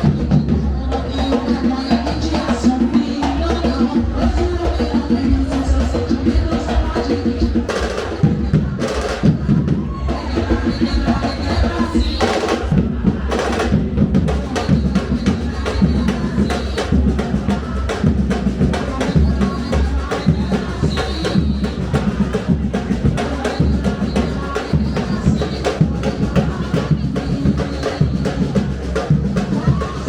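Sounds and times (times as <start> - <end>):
percussion band playing: 0.0 - 30.0.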